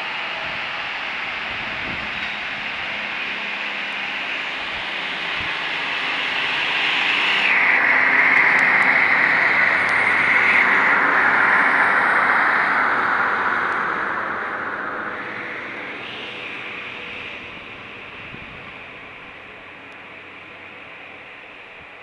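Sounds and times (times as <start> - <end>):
diesel train passing: 0.1 - 21.6.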